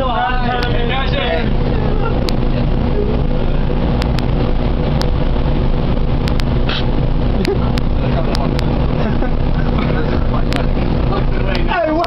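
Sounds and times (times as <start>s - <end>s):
faint hum: 0.0s - 12.0s
machinery and ventilation rumble: 0.0s - 12.0s.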